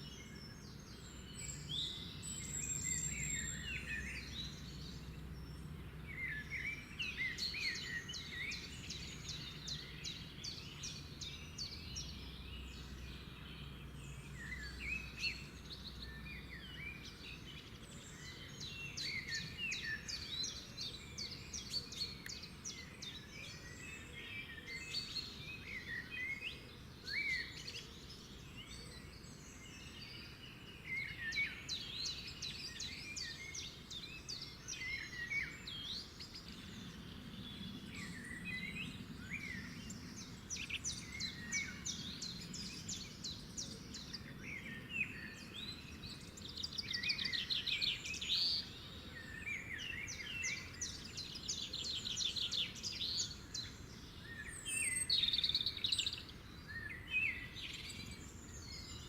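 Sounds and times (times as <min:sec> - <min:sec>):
birds chirping and trilling: 0:00.0 - 0:59.0
faint outdoor background: 0:00.0 - 0:59.0.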